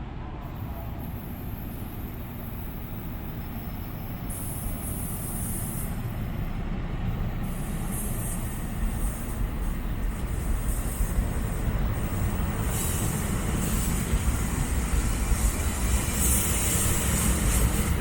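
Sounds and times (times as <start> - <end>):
train approaching rumble: 0.0 - 18.0.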